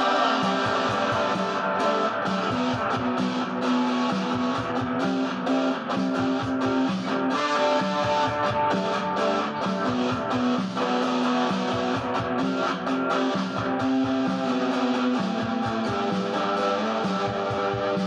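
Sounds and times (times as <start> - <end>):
drum machine beat: 0.0 - 18.0
electric guitar riff: 0.0 - 18.0.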